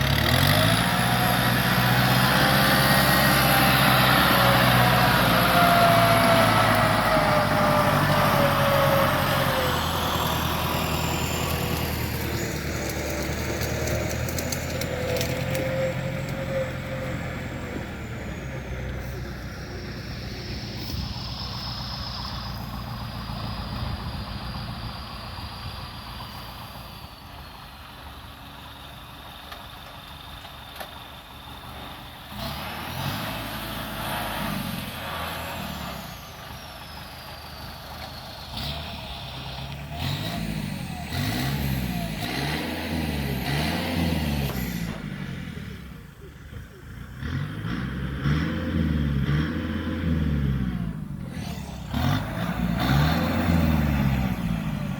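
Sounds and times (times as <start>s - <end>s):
diesel engine revving: 0.0s - 54.9s.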